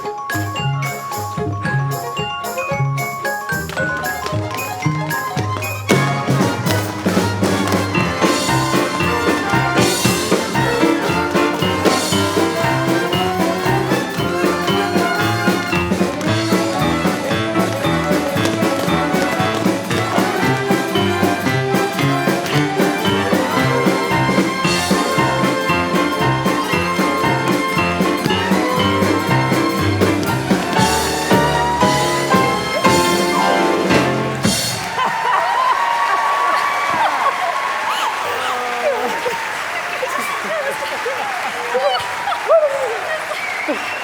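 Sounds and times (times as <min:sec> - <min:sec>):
orchestra playing swing music: 0:00.0 - 0:35.6
drums and percussion beat: 0:00.0 - 0:35.8.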